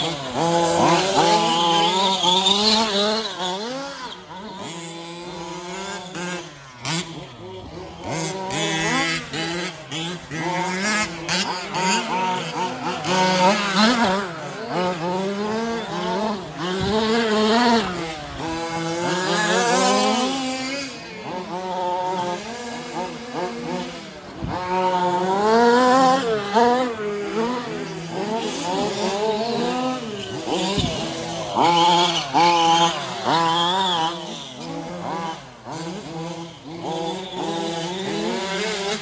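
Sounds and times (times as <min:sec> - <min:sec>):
small two-stroke engines revving: 0:00.0 - 0:39.0.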